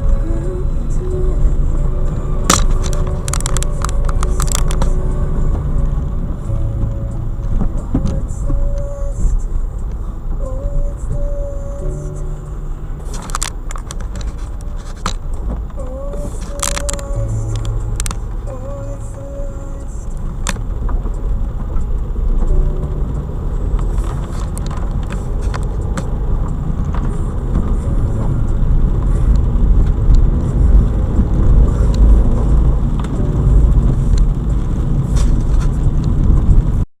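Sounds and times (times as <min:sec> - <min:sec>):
motor vehicle rumble: 0:00.0 - 0:36.9.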